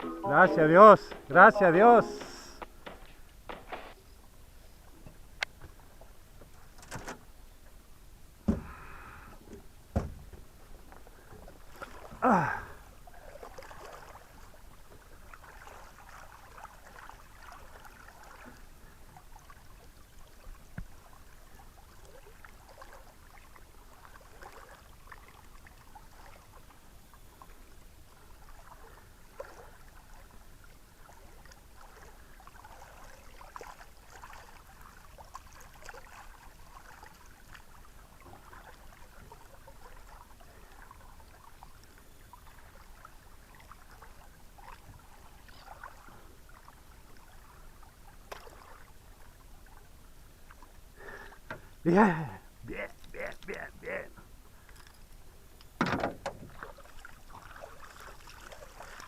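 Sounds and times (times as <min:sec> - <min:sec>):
river water trickling and lapping: 0:00.0 - 0:59.0.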